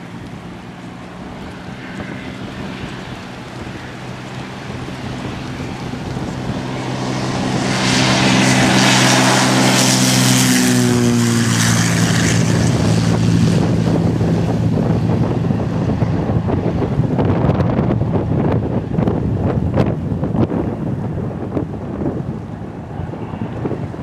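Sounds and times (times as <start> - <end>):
airplane engine and propeller: 0.0 - 24.0
wind buffeting microphone: 0.0 - 24.0.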